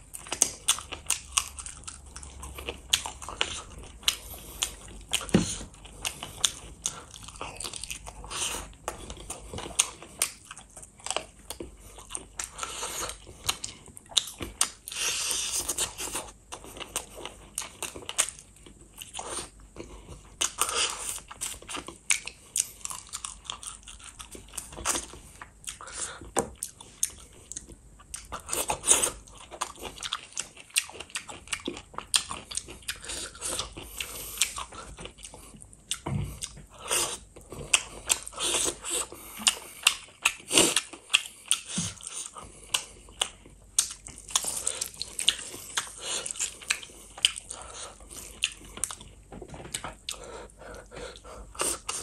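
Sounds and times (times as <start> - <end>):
wet chewing and biting: 0.0 - 52.0.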